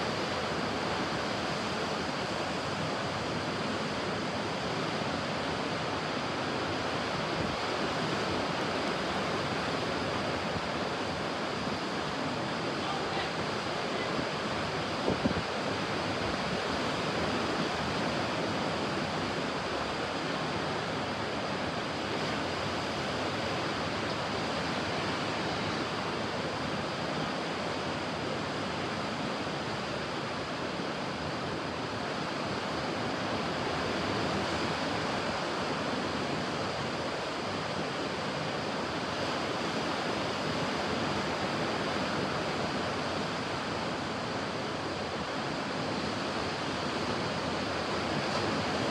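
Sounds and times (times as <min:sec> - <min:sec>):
ocean waves washing: 0:00.0 - 0:48.9.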